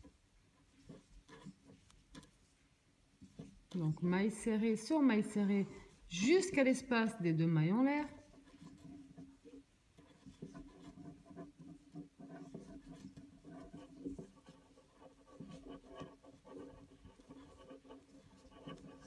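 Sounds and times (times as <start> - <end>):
crochet hook scratching and clicking: 0.0 - 2.5, 3.2 - 7.1, 8.0 - 19.0.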